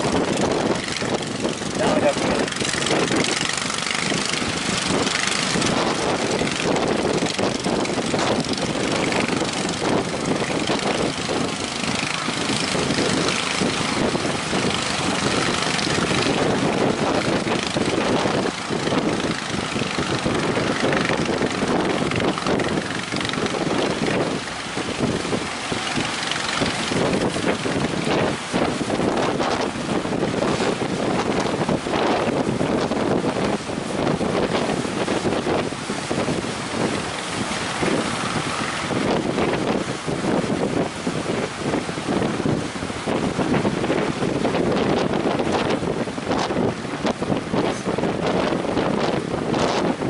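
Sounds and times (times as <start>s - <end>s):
boat engine running: 0.0s - 50.0s
surf rushing: 0.0s - 50.0s
wind buffeting microphone: 0.0s - 50.0s.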